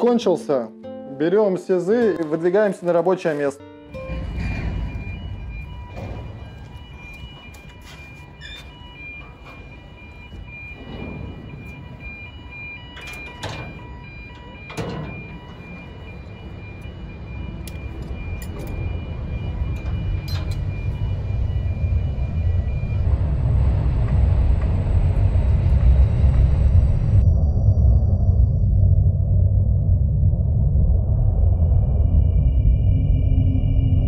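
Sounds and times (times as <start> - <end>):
low machinery rumble: 3.9 - 34.0.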